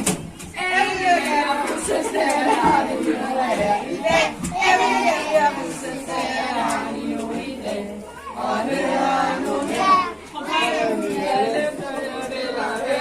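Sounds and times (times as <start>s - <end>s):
children and adults singing: 0.0s - 13.0s.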